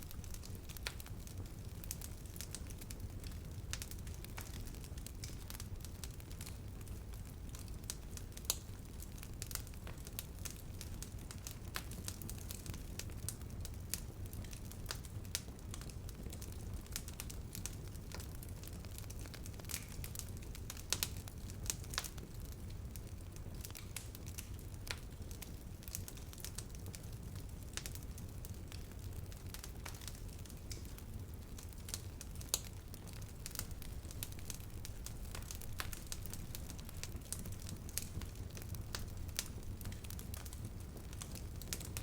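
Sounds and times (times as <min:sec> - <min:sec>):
campfire crackling and popping: 0:00.0 - 0:42.0
low rumble of flames: 0:00.0 - 0:42.0.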